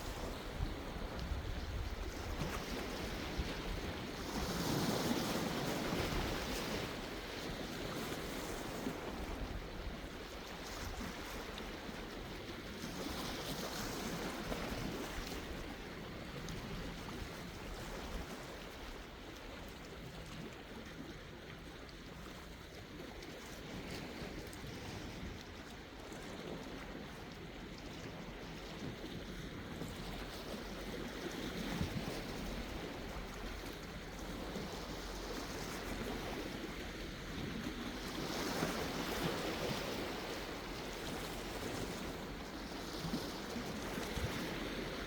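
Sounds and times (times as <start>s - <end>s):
sea waves washing onto shore: 0.0s - 45.0s.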